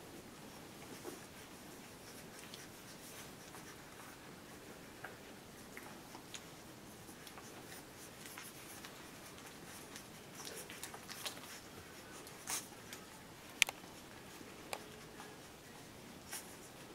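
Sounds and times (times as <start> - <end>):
puppies suckling: 0.4 - 16.9.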